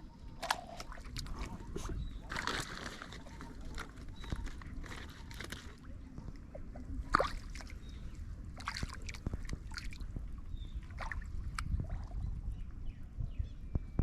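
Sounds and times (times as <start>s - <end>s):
pond water splashing: 0.3s - 12.3s.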